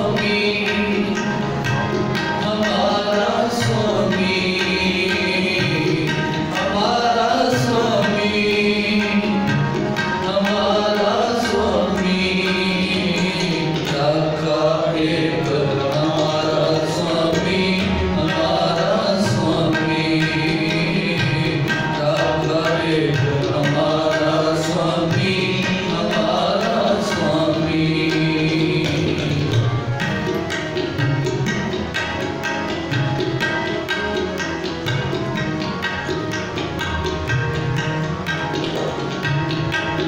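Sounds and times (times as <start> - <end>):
harmoniums holding chords: 0.0 - 40.0
tabla rhythm: 0.0 - 40.0.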